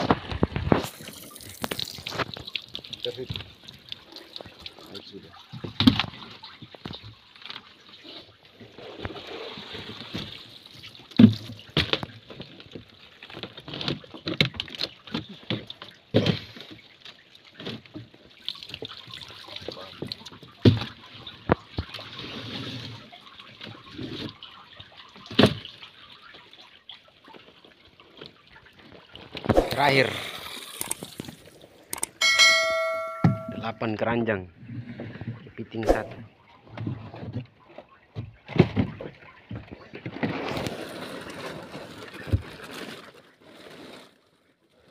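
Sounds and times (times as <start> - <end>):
water sloshing and splashing: 0.0 - 32.9, 34.5 - 44.9.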